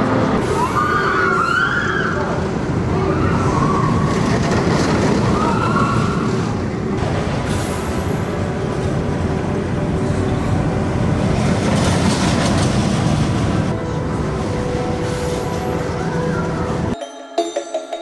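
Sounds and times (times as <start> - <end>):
roller coaster wheels rumbling on rail: 0.0 - 17.0.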